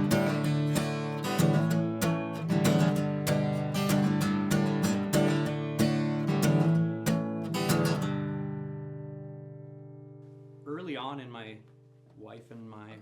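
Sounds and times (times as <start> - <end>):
acoustic guitar strumming: 0.0 - 10.7.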